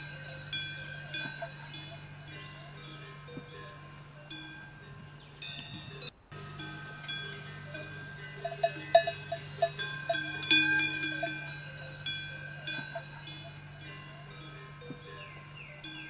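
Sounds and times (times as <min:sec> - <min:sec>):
small metal bells clinking: 0:00.0 - 0:16.0
steady low hum: 0:00.0 - 0:16.0.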